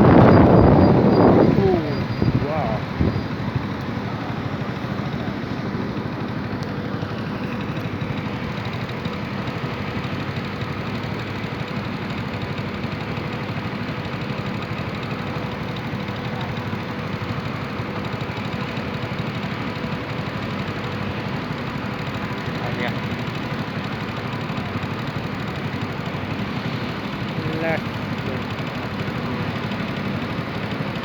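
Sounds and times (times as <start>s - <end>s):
motorcycle engine running: 0.0s - 31.0s
road and wind noise: 0.0s - 31.0s.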